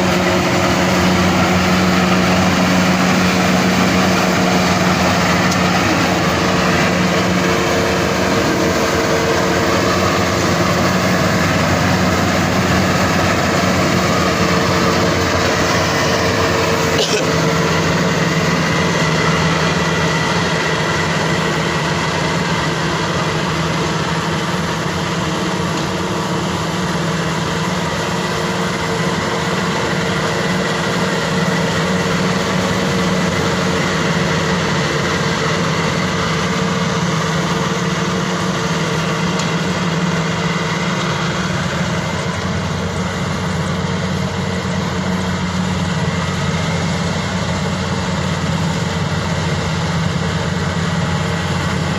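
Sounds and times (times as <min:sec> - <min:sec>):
combine harvester engine running: 0:00.0 - 0:51.9.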